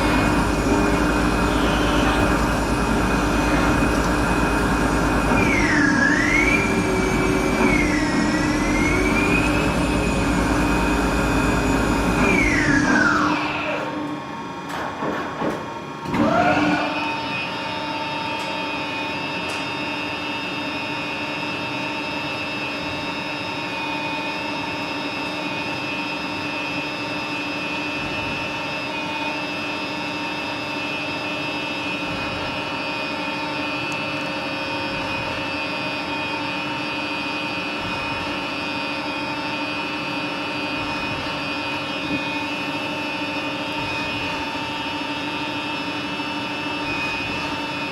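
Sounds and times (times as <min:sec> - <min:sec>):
lathe spindle whine: 0:00.0 - 0:14.5, 0:16.1 - 0:47.9.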